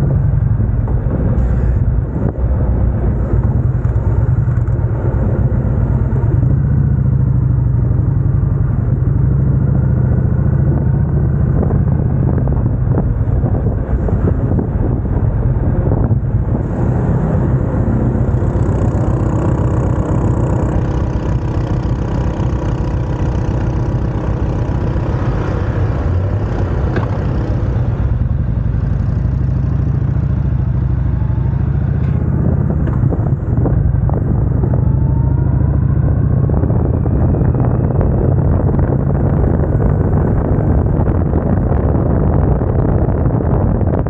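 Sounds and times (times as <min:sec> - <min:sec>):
motorcycle engine running: 0:00.0 - 0:44.0
wind on microphone: 0:00.0 - 0:44.0.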